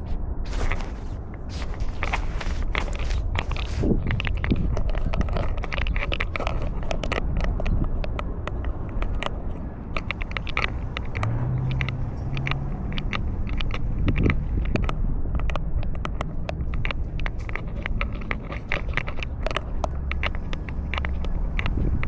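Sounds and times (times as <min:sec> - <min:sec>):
collar camera rustling and scraping: 0:00.0 - 0:22.0.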